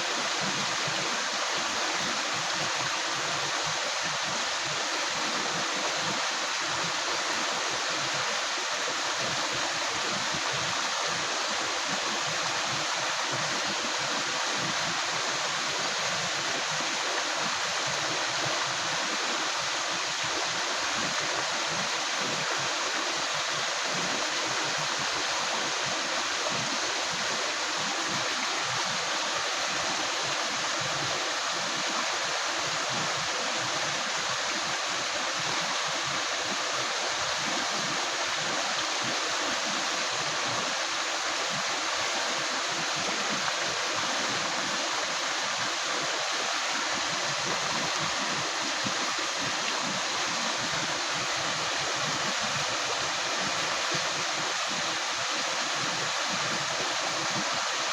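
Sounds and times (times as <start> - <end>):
river water gurgling over stones: 0.0 - 57.9.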